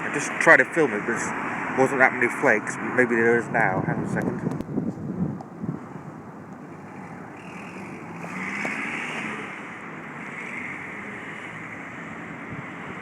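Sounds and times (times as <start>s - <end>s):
car passing: 0.0s - 13.0s
outdoor rumble: 0.0s - 13.0s.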